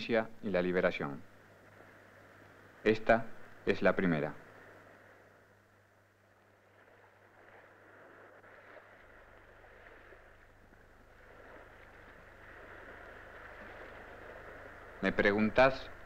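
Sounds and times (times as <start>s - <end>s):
faint rushing noise: 0.0s - 16.0s
low hum: 1.0s - 16.0s.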